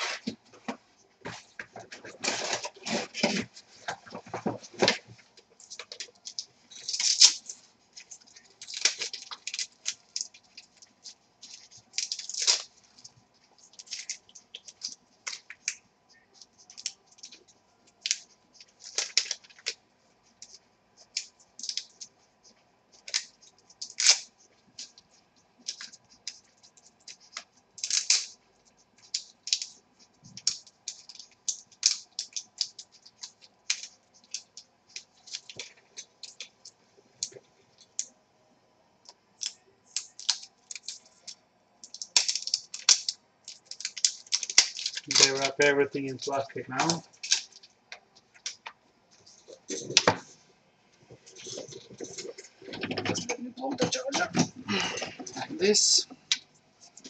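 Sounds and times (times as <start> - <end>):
plastic packaging crinkling: 0.0 - 38.1, 39.1 - 50.4, 51.0 - 57.0.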